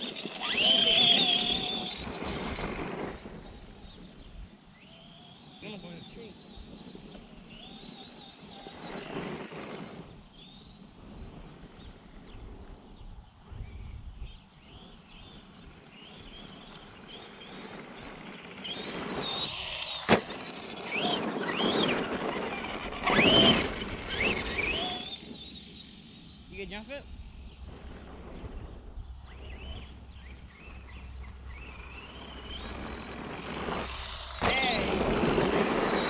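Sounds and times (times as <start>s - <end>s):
rc truck motor whining: 0.0s - 13.0s, 14.3s - 36.0s.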